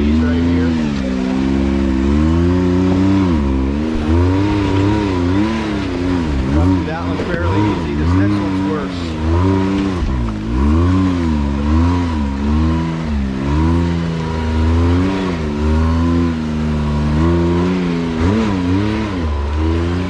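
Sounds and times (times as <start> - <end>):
engine revving in throttle bursts: 0.0 - 20.0.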